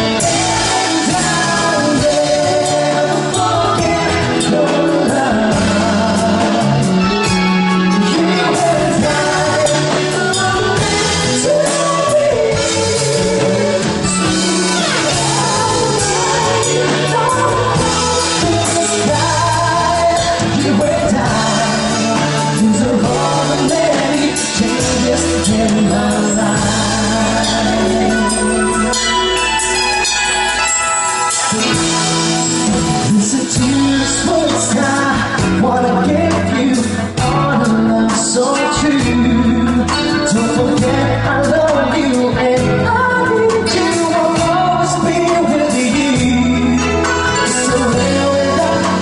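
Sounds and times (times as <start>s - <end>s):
band playing a song: 0.0s - 49.0s
lead vocal singing: 0.0s - 49.0s
steady bass notes: 0.0s - 49.0s.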